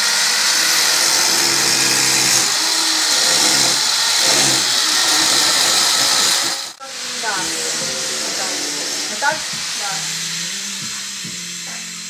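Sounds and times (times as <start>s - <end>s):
electric power tool whirring: 0.0s - 12.0s.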